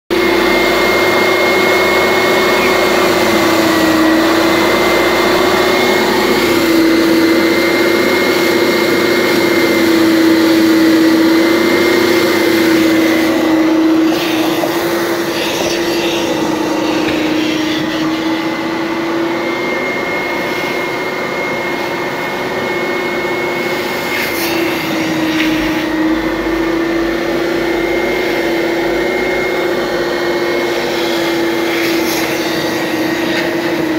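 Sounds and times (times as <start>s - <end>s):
vacuum motor whine: 0.1s - 33.9s.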